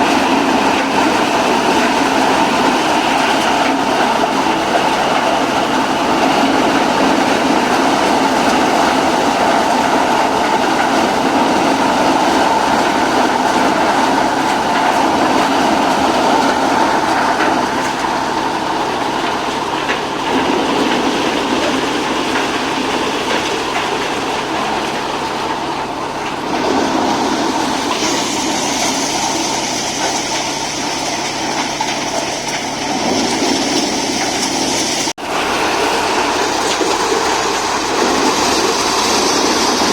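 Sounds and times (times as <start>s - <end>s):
thresher mechanical rattle: 0.0s - 39.9s.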